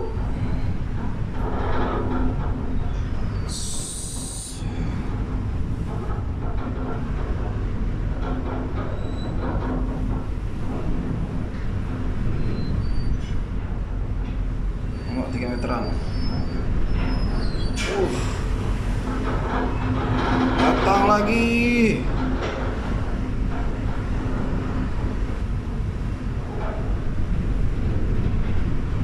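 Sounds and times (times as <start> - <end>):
waves: 0.0 - 9.0, 9.7 - 29.0
ship engines rumbling: 0.0 - 29.0
wind: 0.0 - 29.0.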